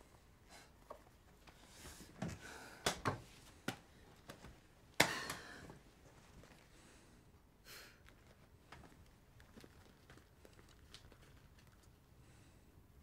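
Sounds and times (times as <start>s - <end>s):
people shifting in a room: 0.0s - 10.7s.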